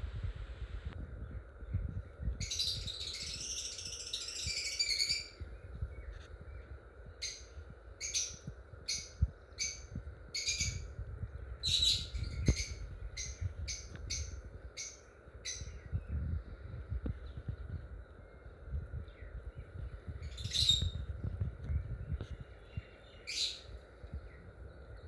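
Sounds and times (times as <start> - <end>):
low rumble: 0.0 - 25.0
lovebirds chattering and chirping: 1.2 - 25.0.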